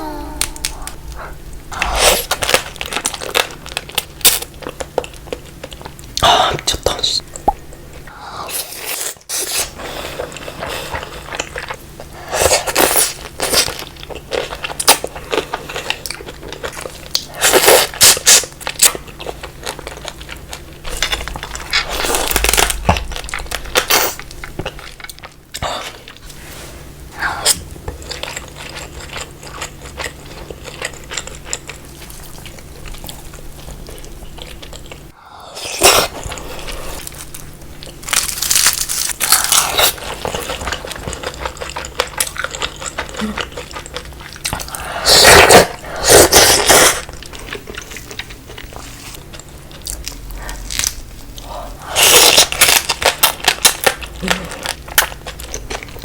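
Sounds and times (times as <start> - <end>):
crunching and chewing: 0.5 - 7.8, 8.4 - 26.8, 27.4 - 56.0.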